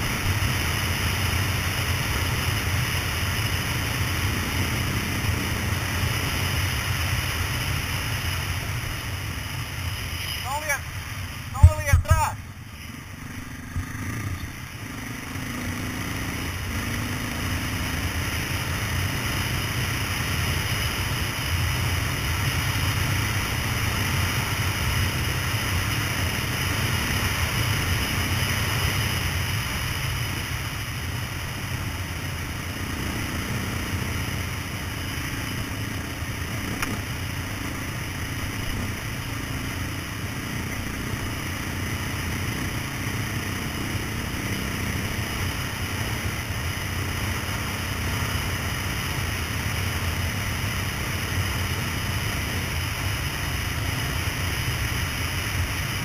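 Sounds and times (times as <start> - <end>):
motorcycle engine running: 0.0 - 56.0
tyres on gravel track: 0.0 - 56.0.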